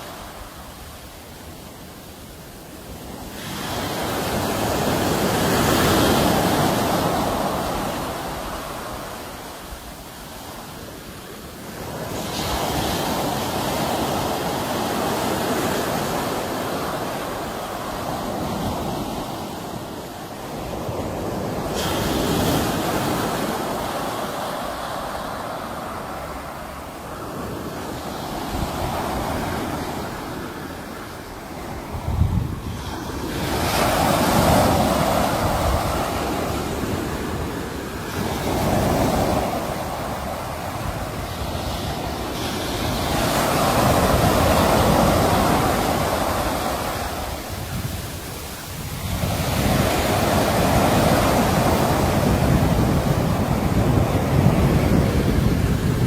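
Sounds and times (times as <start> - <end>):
sea waves washing on shore: 0.0 - 56.0.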